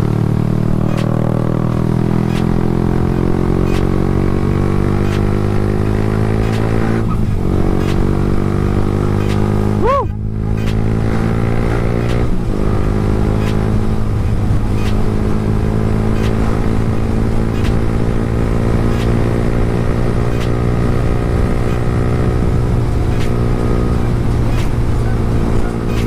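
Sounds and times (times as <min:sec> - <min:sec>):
motorcycle engine under throttle: 0:00.0 - 0:26.0.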